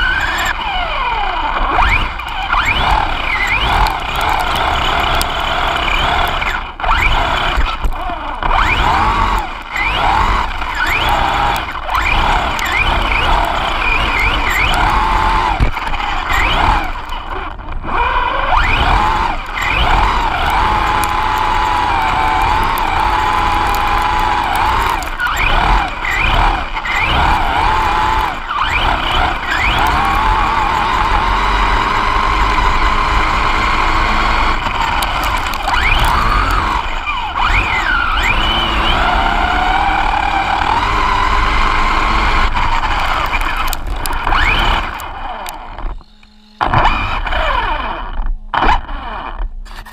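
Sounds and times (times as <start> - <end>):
rc car motor whining: 0.0 - 49.9
tyres on loose dirt: 0.0 - 49.9.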